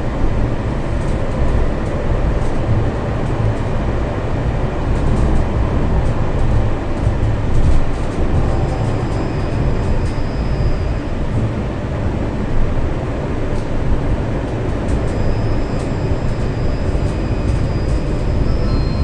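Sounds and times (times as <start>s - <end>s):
tram wheels rumbling on rails: 0.0s - 19.0s.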